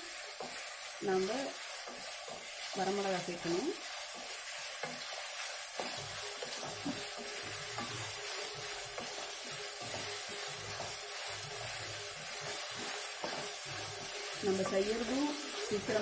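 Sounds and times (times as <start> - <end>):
onions sizzling in oil: 0.0 - 16.0
spatula scraping pan: 0.0 - 16.0.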